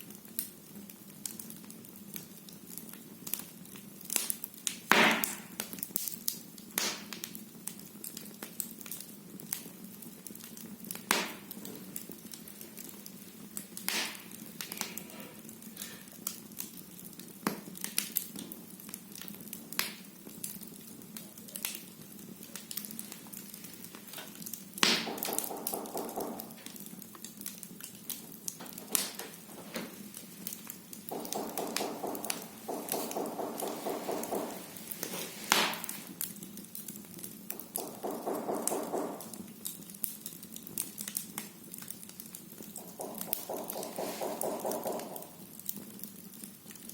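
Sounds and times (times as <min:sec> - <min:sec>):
firewood crackling and popping: 0:00.0 - 0:46.9.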